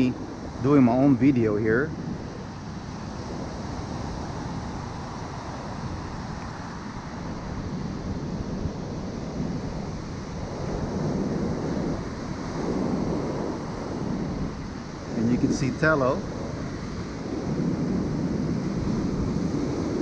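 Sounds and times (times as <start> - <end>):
ocean surf breaking: 0.0 - 20.0
wind on microphone: 0.0 - 20.0.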